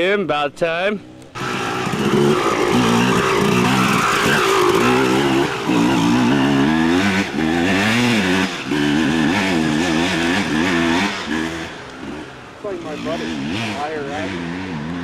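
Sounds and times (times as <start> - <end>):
dirt bike engine revving: 1.0 - 15.0.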